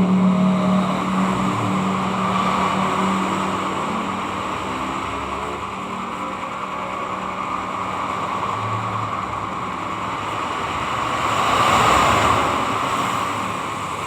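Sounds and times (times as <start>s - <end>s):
sharpening machine running: 0.0s - 11.6s.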